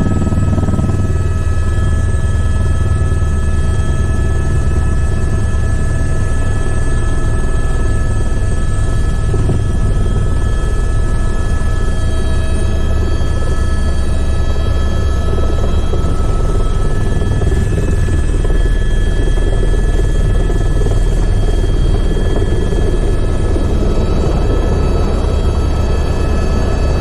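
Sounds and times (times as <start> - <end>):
helicopter rotor and engine noise: 0.0 - 27.0.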